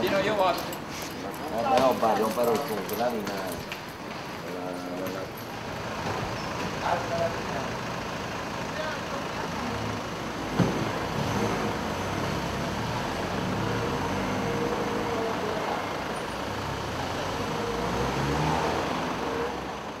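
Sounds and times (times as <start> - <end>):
car engines pulling away: 0.0 - 20.0.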